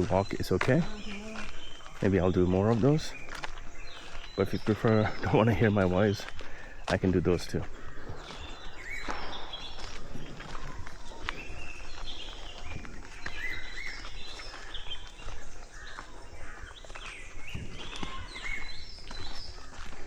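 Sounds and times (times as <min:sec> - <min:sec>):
birds chirping: 0:00.0 - 0:20.0
footsteps on forest path: 0:00.0 - 0:20.0.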